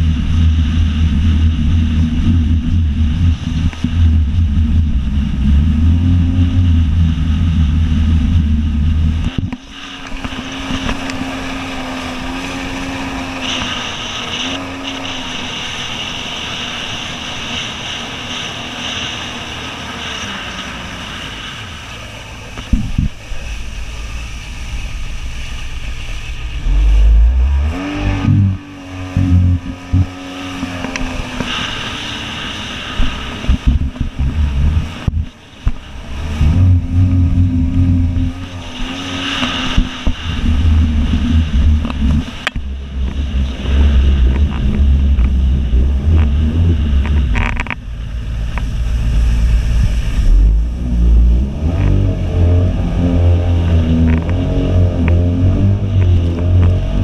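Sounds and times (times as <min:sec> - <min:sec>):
jet ski engine running: 0:00.0 - 0:57.0
wind and water rushing: 0:00.0 - 0:57.0.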